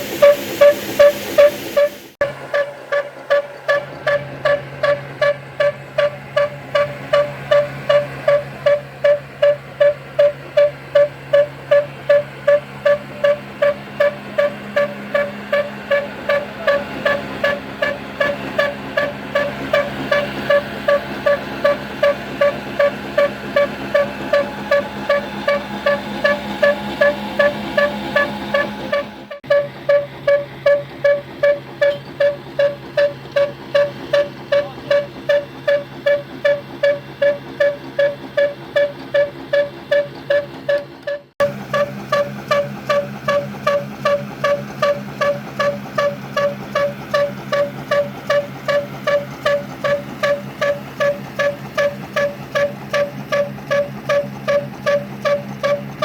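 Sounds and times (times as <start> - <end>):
stationary engine chugging: 0.0 - 56.0.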